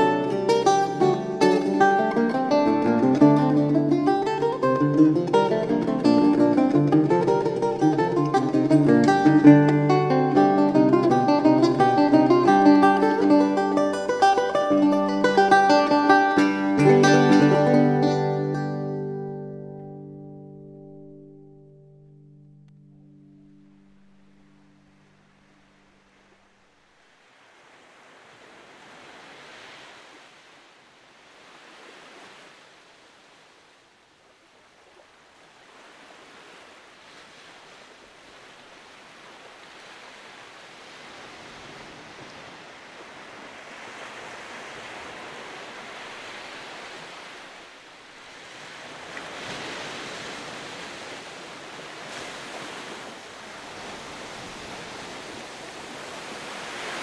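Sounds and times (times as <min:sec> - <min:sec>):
surf: 0:00.0 - 0:57.0
wind: 0:00.0 - 0:57.0.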